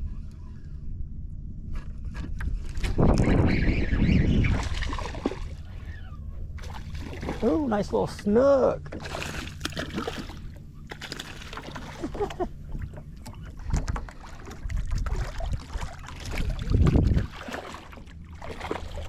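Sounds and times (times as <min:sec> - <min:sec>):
low rumbling thumps: 0:00.0 - 0:19.0
knocks and clicks in boat: 0:01.7 - 0:05.6, 0:06.6 - 0:19.0.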